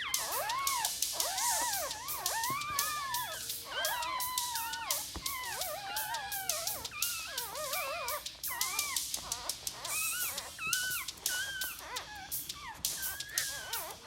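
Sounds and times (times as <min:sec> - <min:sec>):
dog whimpering: 0:00.0 - 0:14.0.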